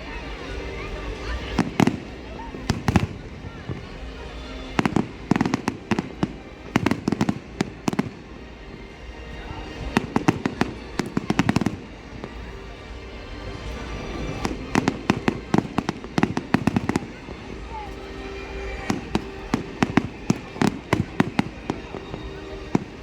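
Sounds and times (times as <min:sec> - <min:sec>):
fireworks bangs and crackles: 0:00.4 - 0:12.6, 0:13.3 - 0:23.0.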